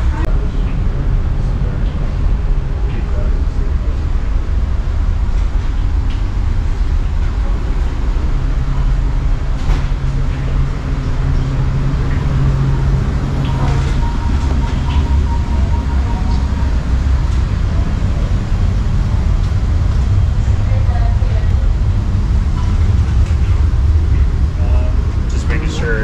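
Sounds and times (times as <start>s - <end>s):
ship machinery low rumble: 0.0s - 26.0s.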